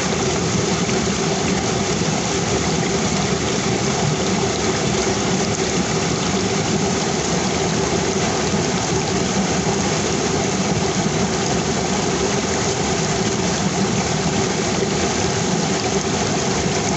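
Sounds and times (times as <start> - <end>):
river water rushing: 0.0 - 16.9.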